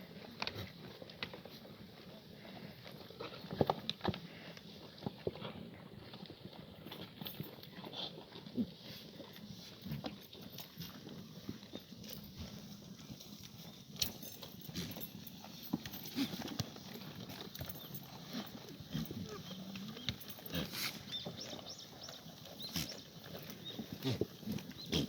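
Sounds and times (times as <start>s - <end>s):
goat hooves clattering: 0.0s - 25.0s.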